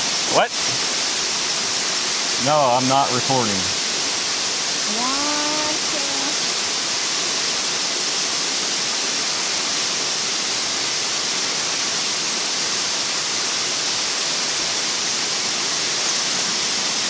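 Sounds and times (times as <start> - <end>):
waterfall pouring: 0.0 - 17.0.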